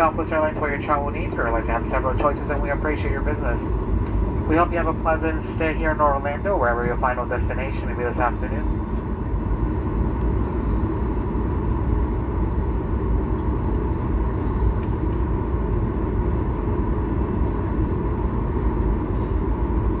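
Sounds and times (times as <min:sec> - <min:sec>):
airplane cabin rumble and hiss: 0:00.0 - 0:20.0.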